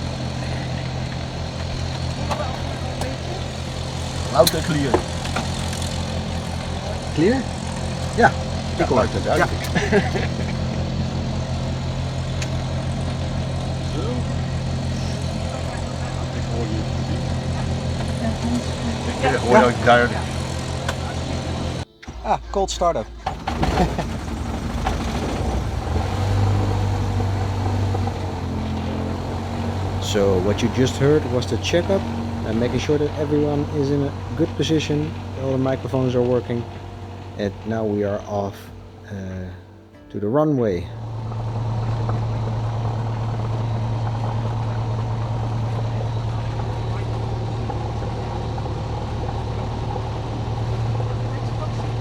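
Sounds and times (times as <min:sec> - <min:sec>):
aircraft piston engine droning: 0:00.0 - 0:52.0.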